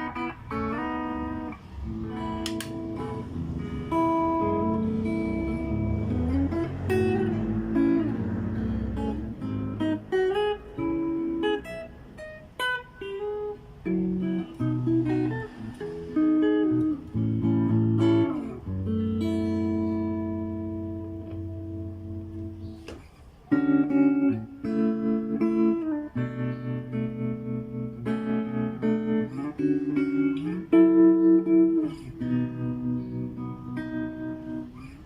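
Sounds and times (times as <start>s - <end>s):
electric guitar playing runs and chords: 0.0s - 35.0s.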